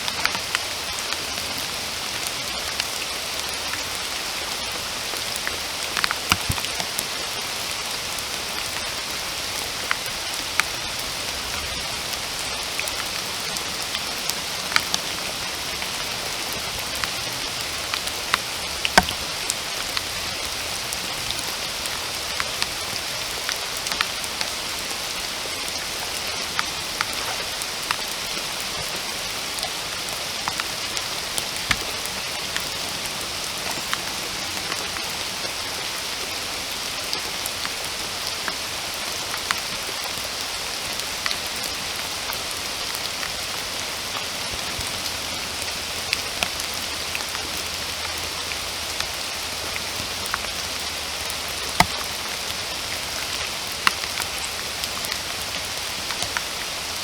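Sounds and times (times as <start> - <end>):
raindrops hitting close by: 0.0 - 57.0
steady rain hiss: 0.0 - 57.0.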